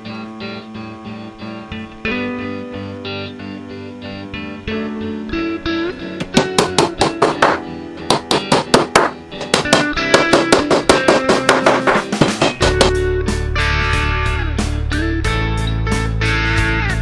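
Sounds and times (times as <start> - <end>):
rhythmic guitar strumming: 0.0 - 17.0.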